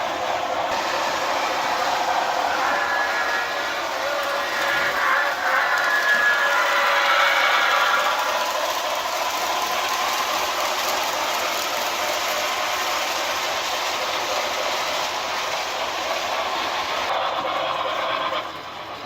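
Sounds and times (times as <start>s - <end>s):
model train mechanical clatter: 0.0s - 19.0s.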